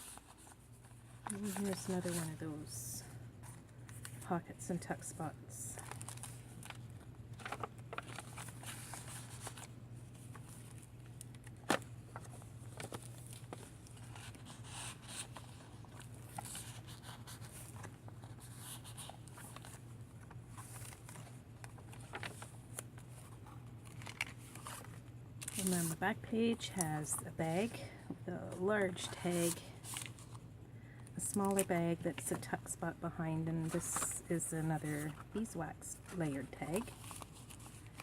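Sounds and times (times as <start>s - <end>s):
paper rustling and crinkling: 0.0s - 2.4s, 5.7s - 30.4s, 31.2s - 32.4s, 33.6s - 38.0s
steady low hum: 0.0s - 38.0s.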